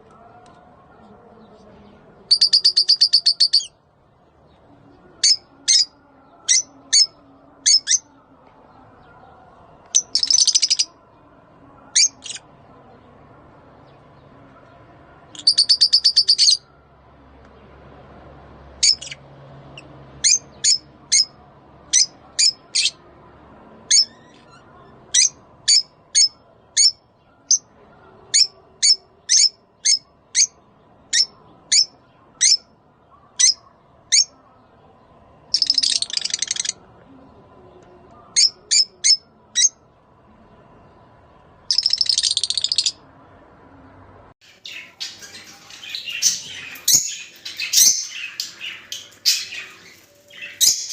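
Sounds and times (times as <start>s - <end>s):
lovebirds chattering: 0.0s - 3.8s, 4.4s - 17.8s, 18.8s - 39.9s, 41.6s - 43.2s, 44.4s - 50.9s
lovebirds chirping: 0.0s - 50.9s.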